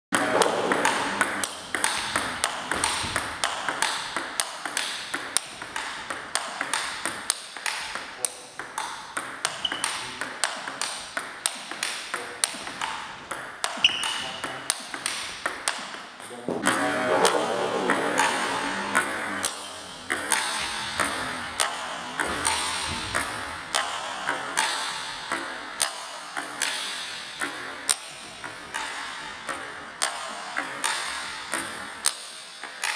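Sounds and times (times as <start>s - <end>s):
table tennis ball knocks: 0.2s - 16.0s, 17.2s - 32.2s.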